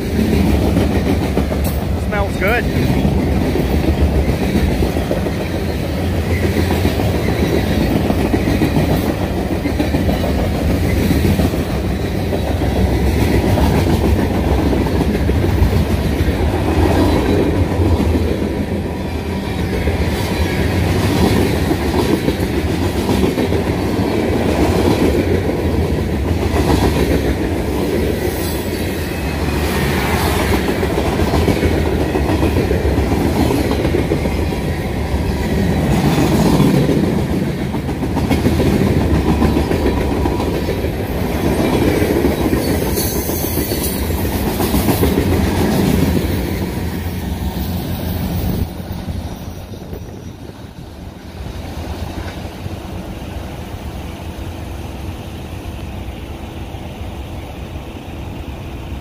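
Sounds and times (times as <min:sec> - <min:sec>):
train wheels clicking over rail joints: 0:00.0 - 0:53.2.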